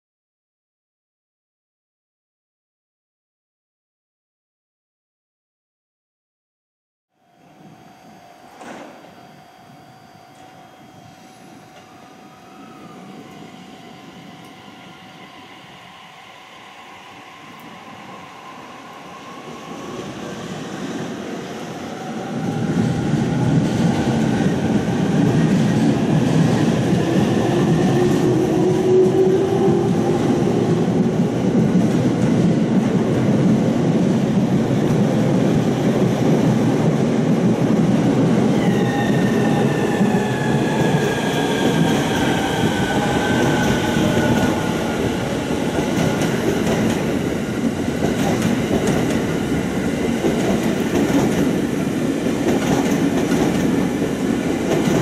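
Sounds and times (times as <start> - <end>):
train rumble and wheel clatter: 10.3 - 55.0.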